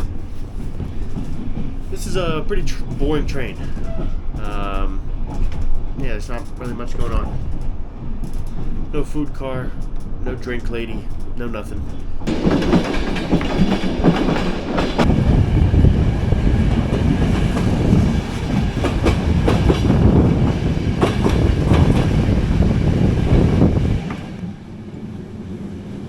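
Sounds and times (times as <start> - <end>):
wheels clattering over rails: 0.0 - 24.4
train carriage rumble: 0.0 - 26.0.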